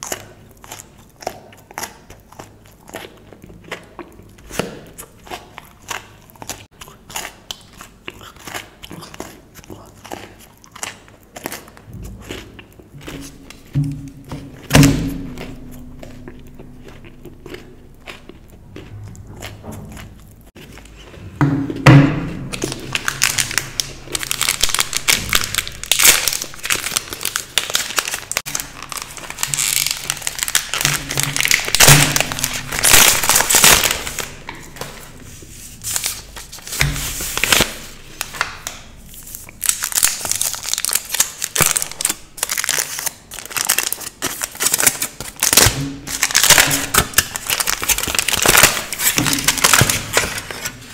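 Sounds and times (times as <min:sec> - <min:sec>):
wrappers crinkling and tearing: 0:00.0 - 0:18.6, 0:22.5 - 0:50.9.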